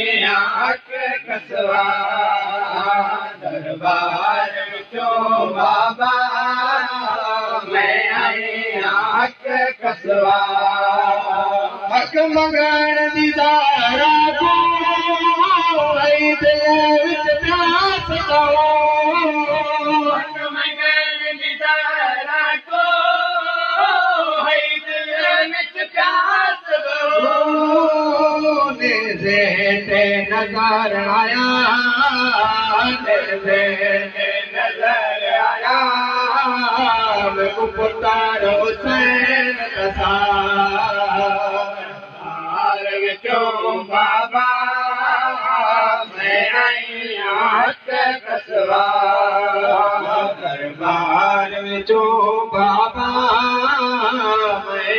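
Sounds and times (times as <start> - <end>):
man chanting through a microphone: 0.0 - 54.9.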